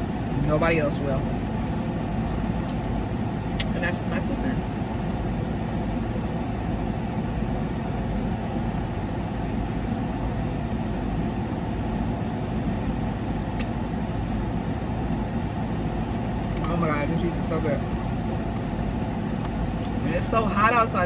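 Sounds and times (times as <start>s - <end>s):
air conditioning hum: 0.0s - 21.0s.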